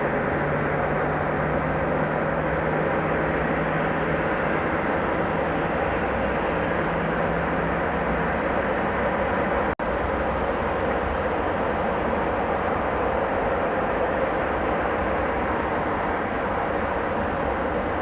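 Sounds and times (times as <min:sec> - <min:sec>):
airliner engines roaring: 0:00.0 - 0:18.0.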